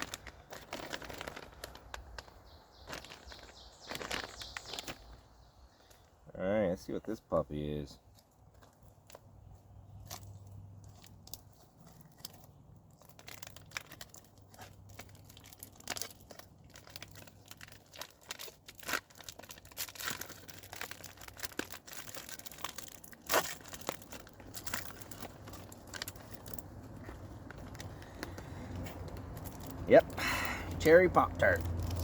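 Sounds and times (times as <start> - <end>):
foil wrapper crinkling and tearing: 0.0 - 6.1, 8.0 - 32.0.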